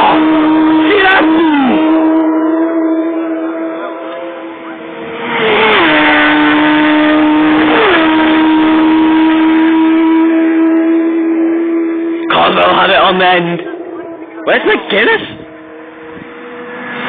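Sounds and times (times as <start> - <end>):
racing motorcycles passing: 0.0 - 17.0.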